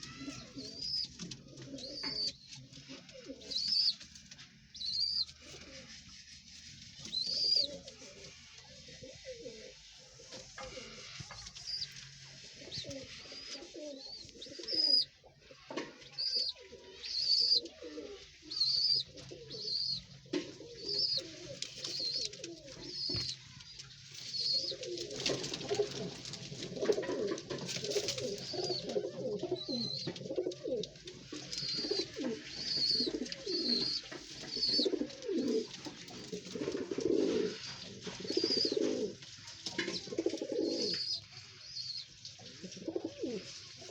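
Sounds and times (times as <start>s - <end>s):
pigeons cooing: 0.0s - 23.6s, 24.2s - 43.9s.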